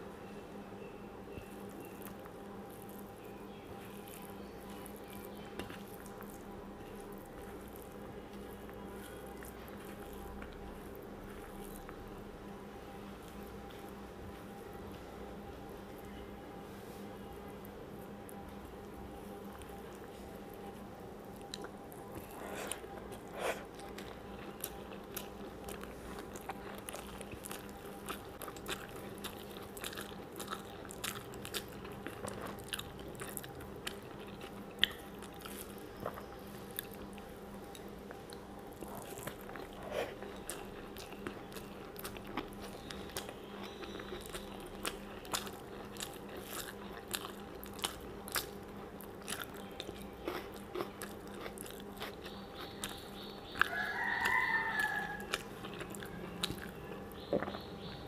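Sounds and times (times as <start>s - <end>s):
steady low hum: 0.0s - 58.0s
close chewing with crunches: 1.3s - 12.2s, 17.0s - 58.0s.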